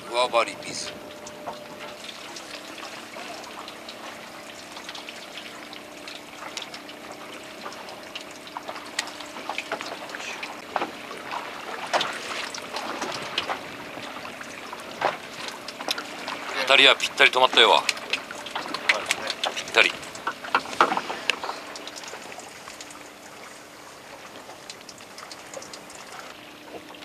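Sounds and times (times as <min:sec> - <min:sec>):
faint steady hum: 0:00.0 - 0:27.0
water lapping against boat hull: 0:00.0 - 0:27.0.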